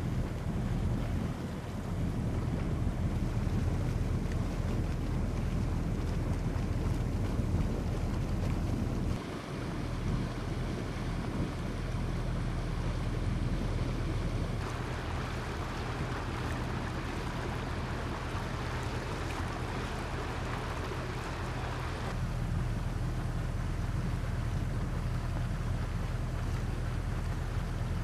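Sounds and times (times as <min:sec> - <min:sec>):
boat engine humming: 0:00.0 - 0:28.0
rushing water: 0:00.0 - 0:28.0
wind on microphone: 0:00.0 - 0:28.0.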